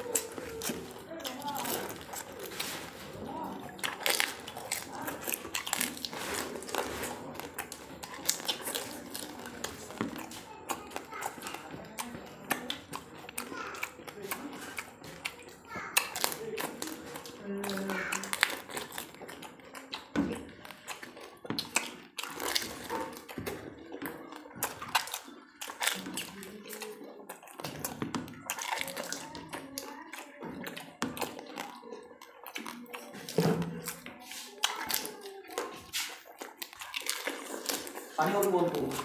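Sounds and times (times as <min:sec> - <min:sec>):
crisp shells crunching in mouth: 0:00.0 - 0:39.0
wet chewing: 0:00.0 - 0:39.0.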